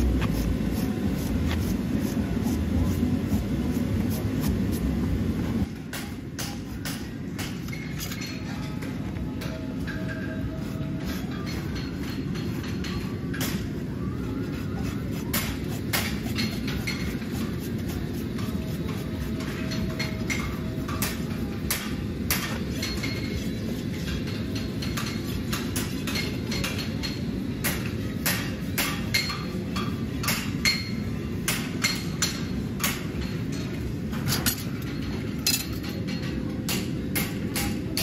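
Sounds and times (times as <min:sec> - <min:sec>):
hammers striking horseshoes on anvils: 0:05.6 - 0:13.8, 0:14.9 - 0:38.0.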